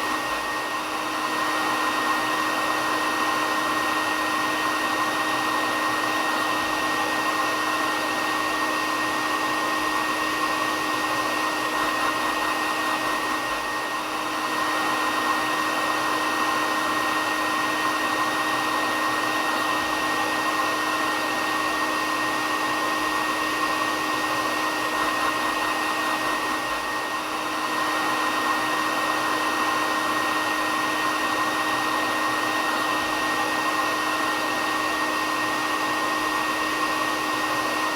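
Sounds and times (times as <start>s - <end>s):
hair dryer running: 0.0s - 37.9s.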